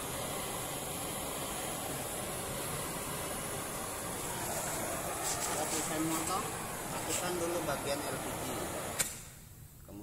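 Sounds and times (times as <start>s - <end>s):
cutting torch flame hissing: 0.0s - 9.6s.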